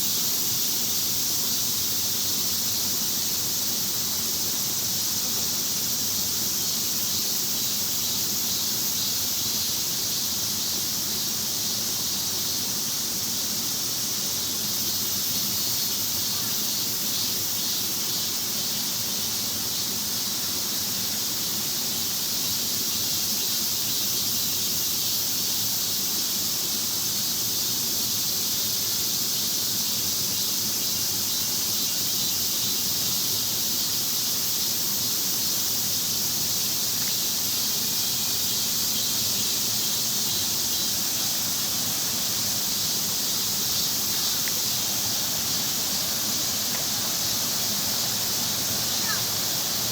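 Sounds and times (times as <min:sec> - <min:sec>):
cicadas droning: 0:00.0 - 0:49.9.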